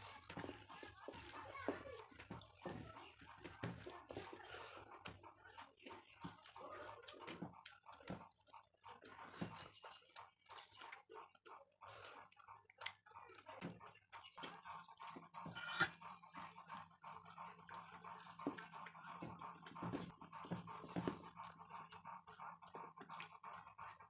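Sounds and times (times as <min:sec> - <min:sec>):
chewing and mouth sounds: 0:00.0 - 0:24.0.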